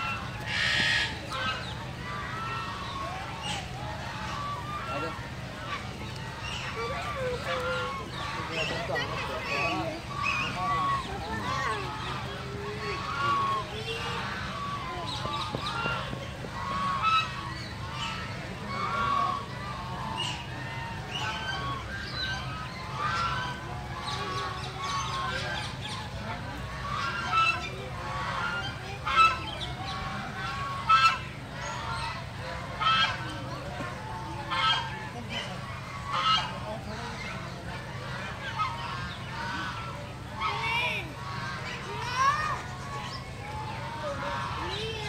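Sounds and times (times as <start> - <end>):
geese honking: 0.0 - 45.0.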